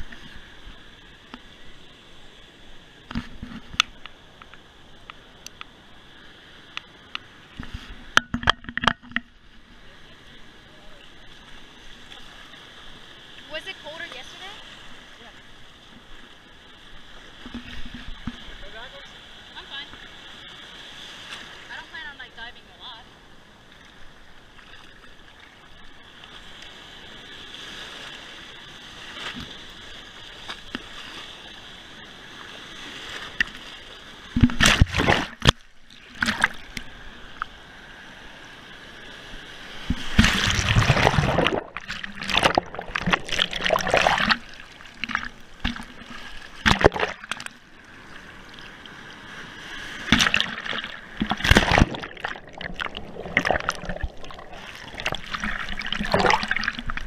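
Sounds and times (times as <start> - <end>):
sea surf splashing: 0.0 - 57.0.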